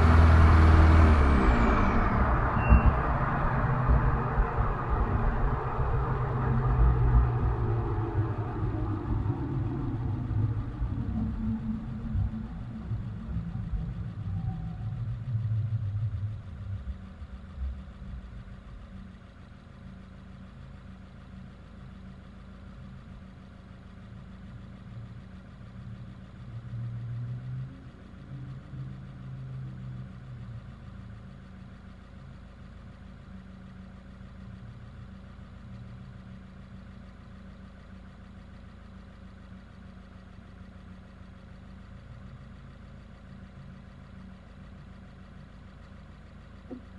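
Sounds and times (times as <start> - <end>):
car engine running at low revs: 0.0 - 46.9.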